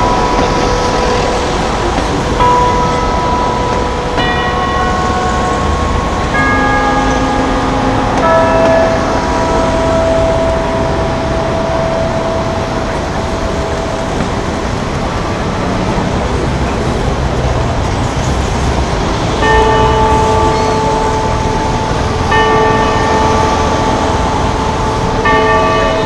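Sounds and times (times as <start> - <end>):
clock tower bell chiming: 0.0 - 26.0
street traffic: 0.0 - 26.0.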